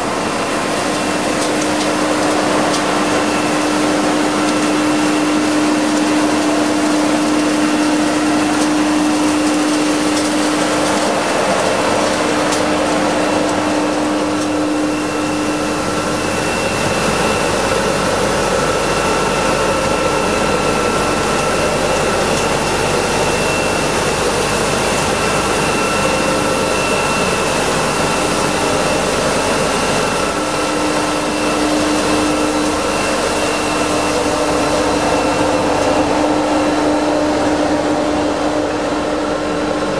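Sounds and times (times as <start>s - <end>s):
road sweeper roaring: 0.0s - 39.9s
steady hum: 0.0s - 39.9s.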